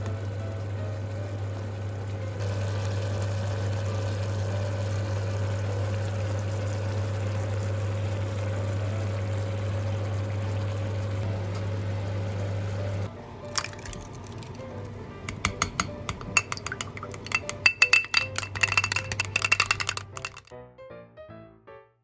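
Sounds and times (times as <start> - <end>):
low electric hum: 0.0 - 20.2
food frying in a pan: 0.0 - 20.5.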